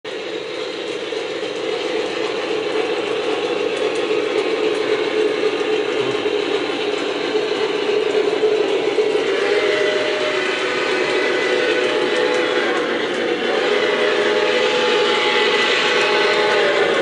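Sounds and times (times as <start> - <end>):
constant hum: 0.1 - 17.0
model train rumbling: 0.1 - 17.0.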